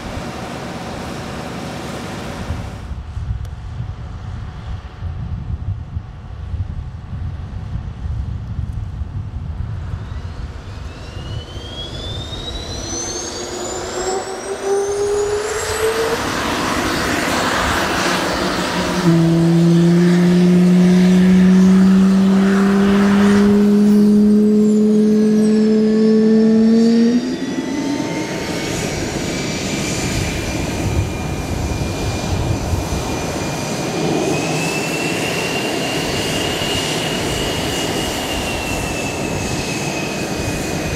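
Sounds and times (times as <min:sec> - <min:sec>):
jet engine whining: 0:00.0 - 0:05.1, 0:09.4 - 0:40.9
loud low hum: 0:00.0 - 0:34.6.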